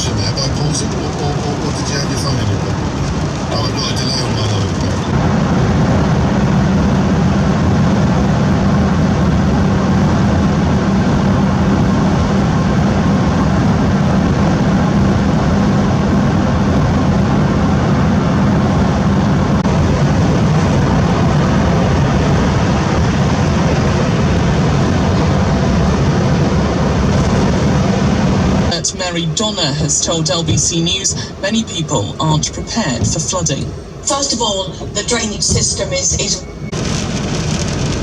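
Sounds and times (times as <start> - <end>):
road noise: 0.0 - 38.0
van engine drone: 0.0 - 38.0.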